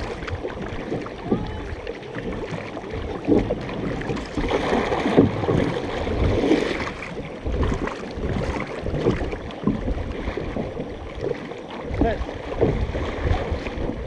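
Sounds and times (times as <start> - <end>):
paddles splashing in water: 0.0 - 14.0
water rushing past hull: 0.0 - 14.0
wind rumble on microphone: 0.0 - 14.0.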